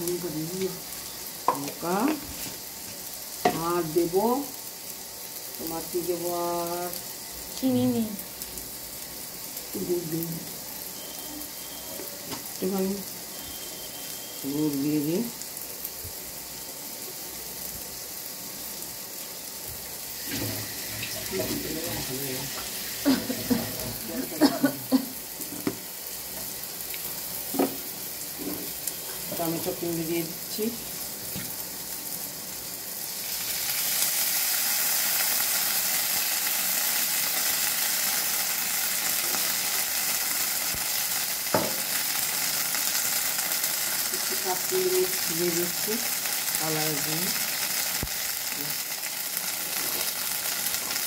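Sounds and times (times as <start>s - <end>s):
onions sizzling in oil: 0.0s - 51.0s.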